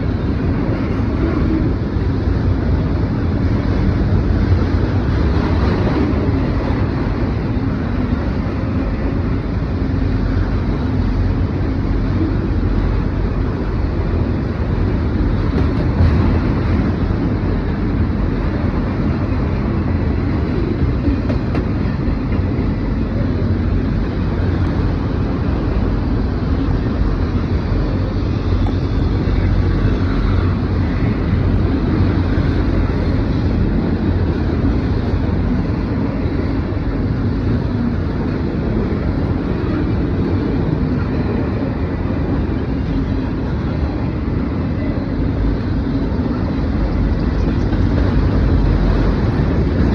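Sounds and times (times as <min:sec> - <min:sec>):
freight train rumbling on rails: 0:00.0 - 0:49.9.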